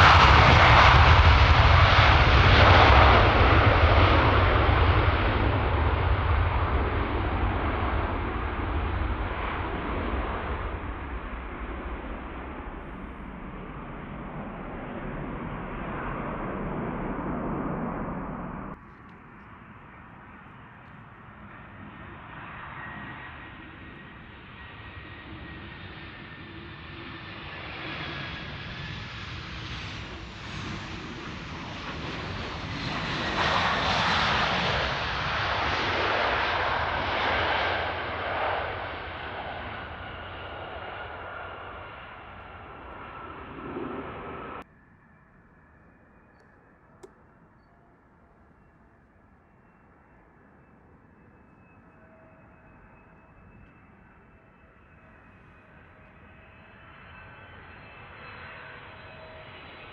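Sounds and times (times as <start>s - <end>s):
airliner landing with whine: 0.0s - 59.9s
jet engine noise: 0.0s - 59.9s.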